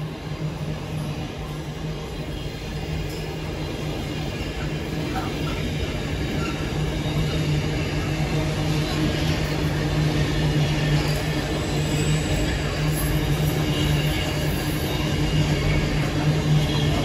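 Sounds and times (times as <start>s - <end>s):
train rolling with low hum: 0.0s - 17.0s.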